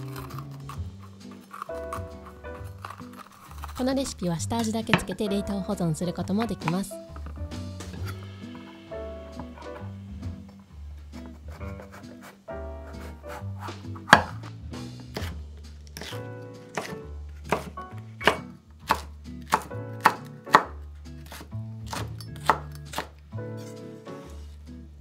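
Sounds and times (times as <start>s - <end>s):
light background music: 0.0s - 25.0s.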